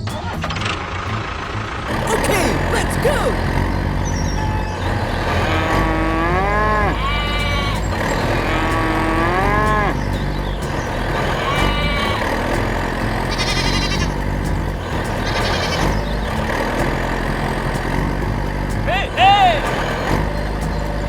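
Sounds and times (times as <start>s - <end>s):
tractor engine hum: 0.0s - 21.0s.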